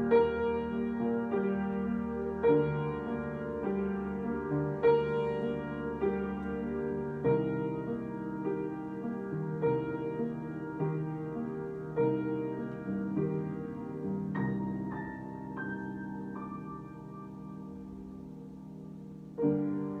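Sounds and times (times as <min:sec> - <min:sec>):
slow solo piano chords: 0:00.0 - 0:20.0.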